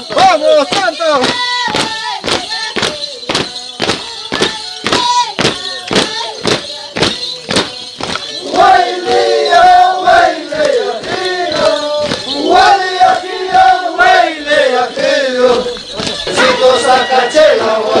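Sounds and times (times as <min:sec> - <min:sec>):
chorus of many voices: 0:00.0 - 0:18.0
sharp rhythmic strikes: 0:00.0 - 0:18.0.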